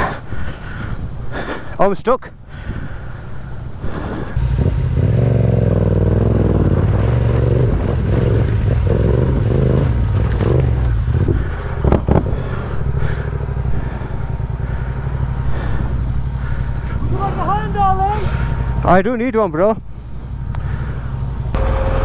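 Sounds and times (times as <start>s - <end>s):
motorcycle engine running: 3.0s - 22.0s.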